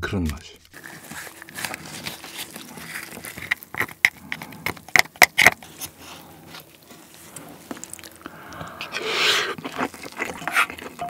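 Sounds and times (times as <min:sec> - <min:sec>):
crab meat pulled from shell: 0:00.6 - 0:11.0.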